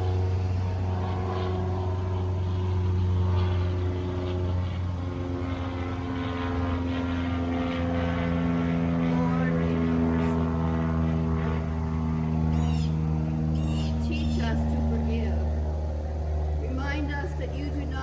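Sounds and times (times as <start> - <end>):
low engine-like drone: 0.0 - 18.0.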